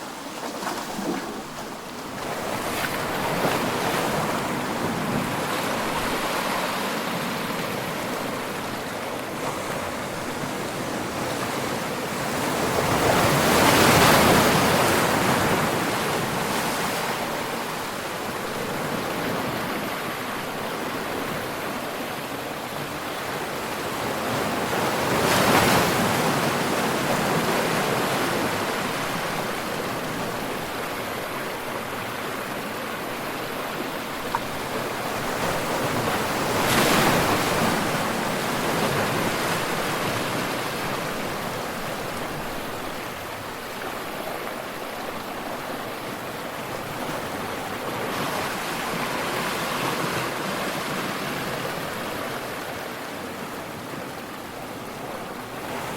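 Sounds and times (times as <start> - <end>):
large waves breaking: 0.0 - 55.9
surf washing onto shore: 0.0 - 55.9.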